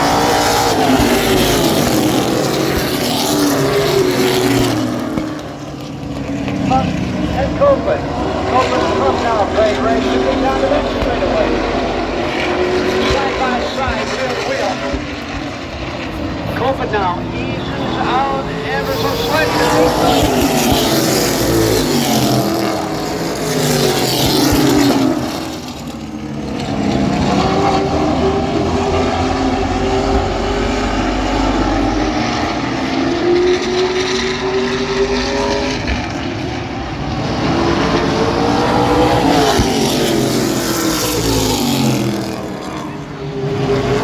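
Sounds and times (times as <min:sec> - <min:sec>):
race truck engines revving: 0:00.0 - 0:44.0.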